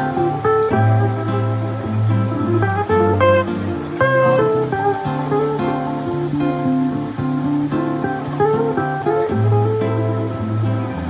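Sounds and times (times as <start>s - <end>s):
acoustic guitar: 0.0s - 11.0s
mandolin plucked notes: 0.0s - 11.0s.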